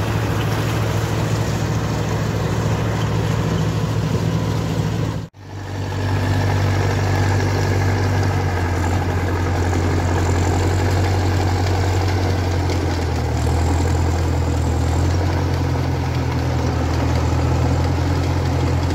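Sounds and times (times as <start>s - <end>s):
harvester machinery running: 0.0s - 18.9s
tractor diesel engine running: 0.0s - 18.9s.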